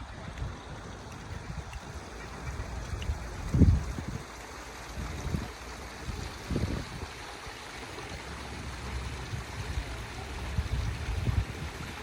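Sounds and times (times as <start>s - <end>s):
flowing stream water: 0.0s - 12.0s.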